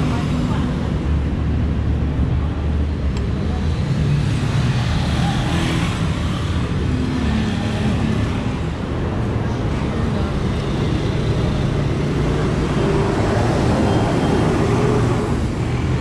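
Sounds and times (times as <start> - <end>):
motorbikes passing: 0.0 - 16.0
street traffic: 0.0 - 16.0.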